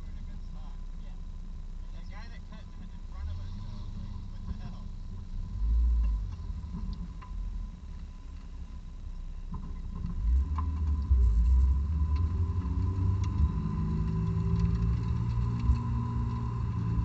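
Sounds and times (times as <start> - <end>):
car engine pulling away: 0.0 - 17.0
faint steady whine: 0.0 - 17.0.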